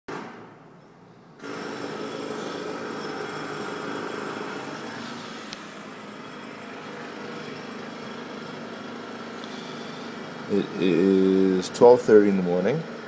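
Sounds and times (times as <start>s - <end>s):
jackhammer pounding: 1.4s - 13.0s.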